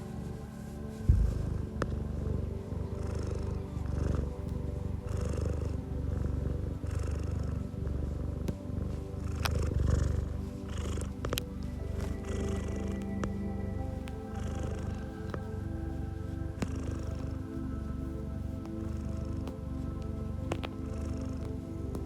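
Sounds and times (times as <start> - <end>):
cat purring: 0.0 - 22.0
soft background music: 0.0 - 22.0.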